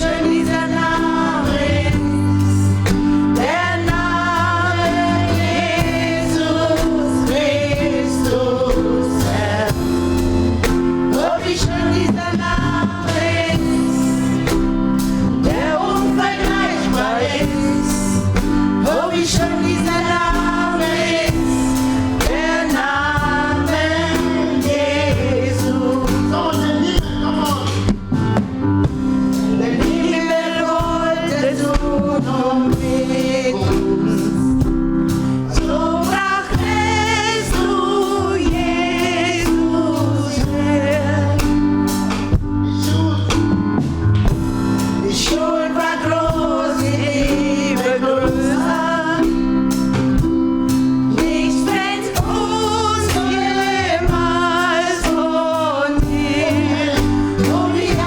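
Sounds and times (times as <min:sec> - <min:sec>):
gospel singers with vibrato: 0:00.0 - 0:58.0
instrumental accompaniment with beat: 0:00.0 - 0:58.0.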